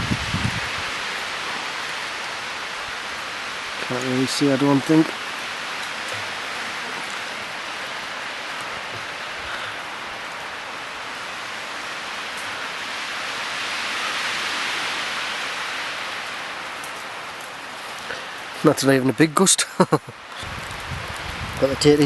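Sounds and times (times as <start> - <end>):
wind rushing through trees: 0.0 - 22.0.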